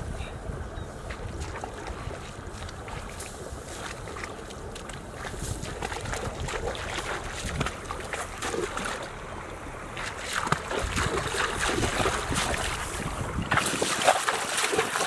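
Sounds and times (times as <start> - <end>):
wind rumbling on microphone: 0.0 - 15.0
footsteps splashing through water: 1.0 - 15.0.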